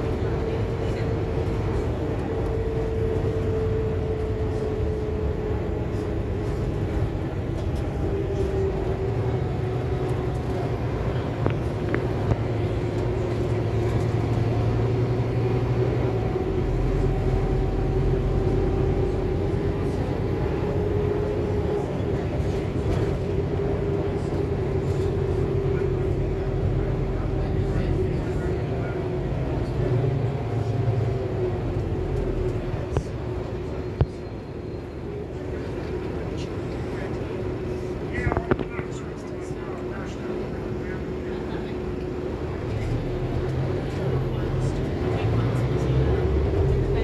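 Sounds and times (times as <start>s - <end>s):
bus engine drone with whine: 0.0s - 47.0s.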